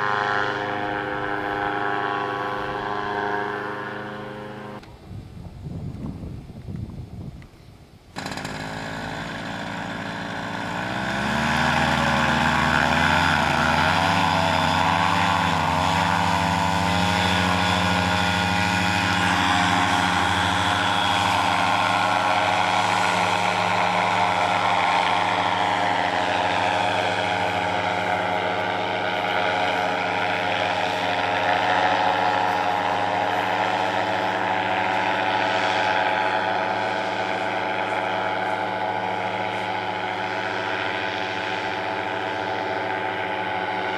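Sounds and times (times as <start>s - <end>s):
propeller engine revving: 0.0s - 4.9s, 8.1s - 43.9s.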